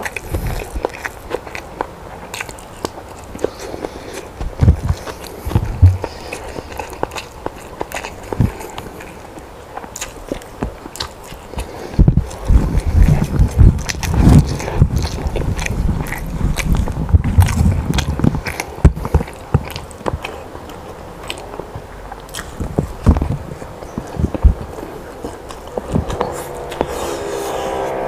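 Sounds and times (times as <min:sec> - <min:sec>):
sharp mouth clicks: 0:00.0 - 0:09.2, 0:09.8 - 0:27.2
person chewing food: 0:00.0 - 0:27.9.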